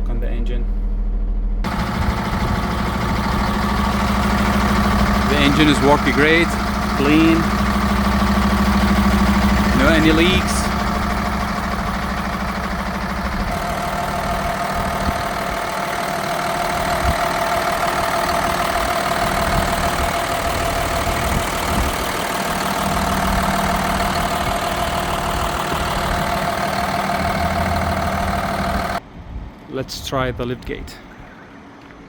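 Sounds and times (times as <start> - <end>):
diesel engine idling: 1.6 - 29.0.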